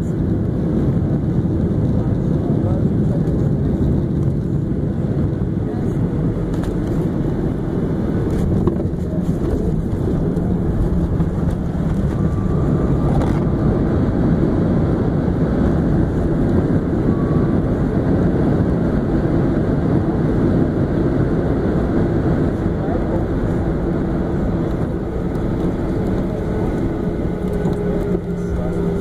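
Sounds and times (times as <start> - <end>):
jet engines roaring: 0.0 - 29.0
runway rumble: 0.0 - 29.0.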